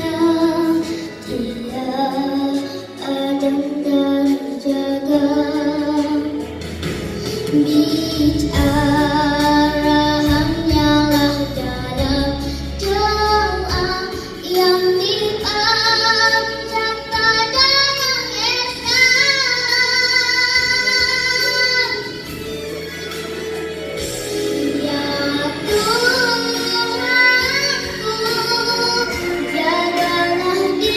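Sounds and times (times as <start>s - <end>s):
child singing: 0.0s - 6.4s, 7.2s - 22.4s, 24.5s - 30.9s
backing music: 0.0s - 30.9s.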